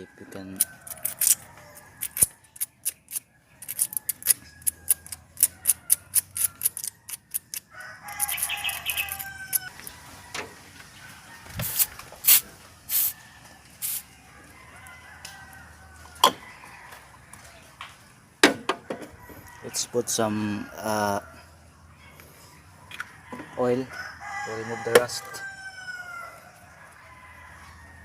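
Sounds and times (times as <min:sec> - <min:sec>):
rooster crowing: 0:03.7 - 0:17.8, 0:18.8 - 0:21.6, 0:22.4 - 0:28.0.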